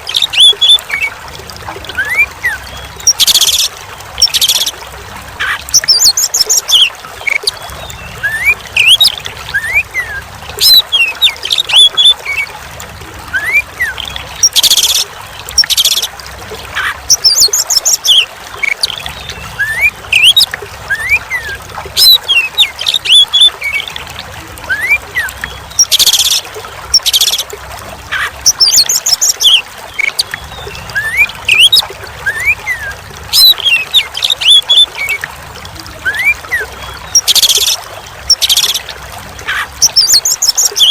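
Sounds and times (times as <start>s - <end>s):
trickling water: 0.0s - 40.9s
bird singing whistled phrases and trills: 0.1s - 1.1s, 1.8s - 4.7s, 5.4s - 12.5s, 13.2s - 16.1s, 16.8s - 24.0s, 24.6s - 27.5s, 28.1s - 35.2s, 35.9s - 40.9s.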